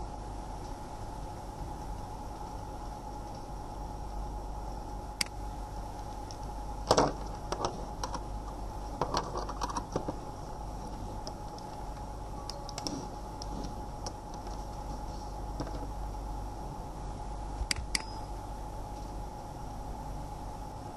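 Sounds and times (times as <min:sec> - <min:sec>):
steady electrical hum: 0:00.0 - 0:20.9.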